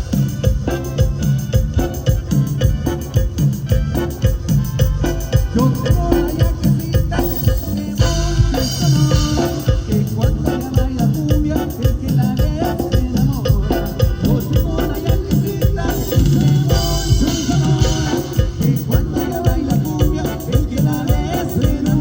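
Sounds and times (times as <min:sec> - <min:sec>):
live band playing latin dance music: 0:00.0 - 0:22.0.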